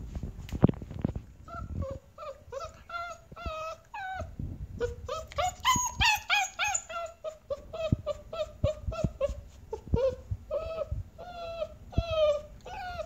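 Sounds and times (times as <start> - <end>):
puppy whining and whimpering: 1.4 - 13.0.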